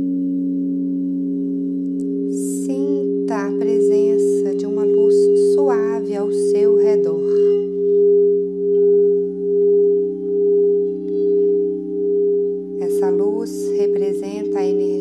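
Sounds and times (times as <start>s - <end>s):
crystal singing bowls chord: 0.0s - 15.0s.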